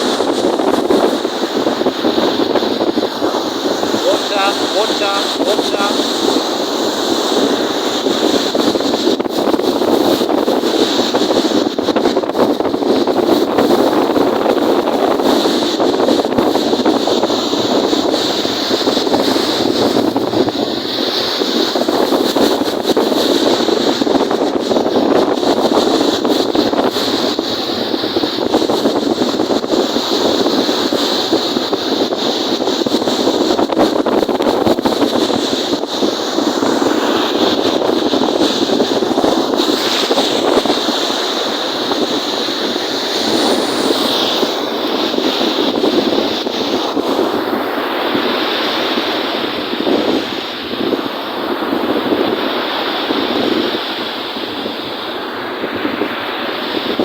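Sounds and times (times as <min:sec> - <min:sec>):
waves washing on shore: 0:00.0 - 0:57.0
wind buffeting microphone: 0:00.0 - 0:57.0.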